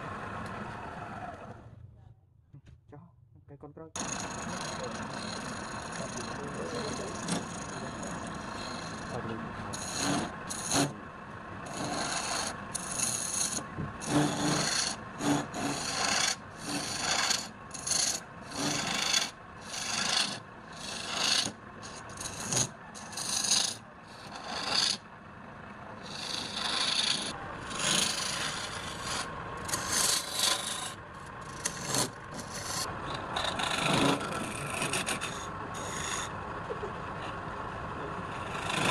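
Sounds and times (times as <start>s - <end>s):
tool scraping spinning wood: 4.0s - 25.1s, 25.9s - 37.4s, 38.2s - 38.9s.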